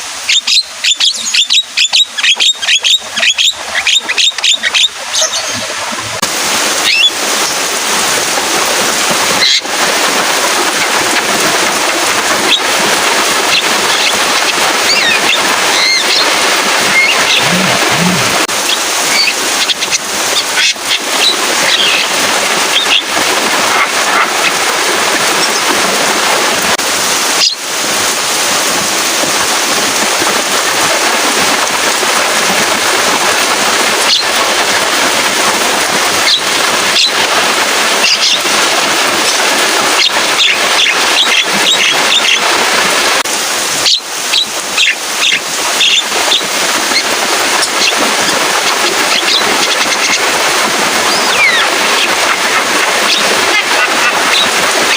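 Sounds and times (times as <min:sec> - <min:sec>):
loud rain hiss: 0:00.0 - 0:54.9.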